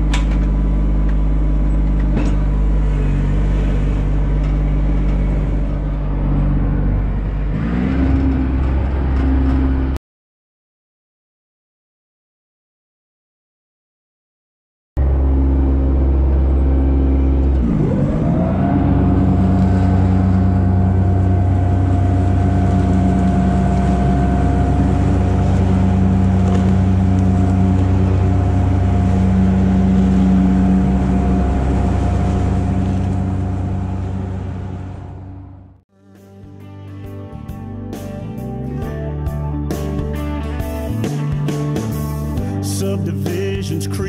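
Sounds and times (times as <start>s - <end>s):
engine running and revving: 0.0s - 10.0s, 15.0s - 35.8s, 37.4s - 44.0s.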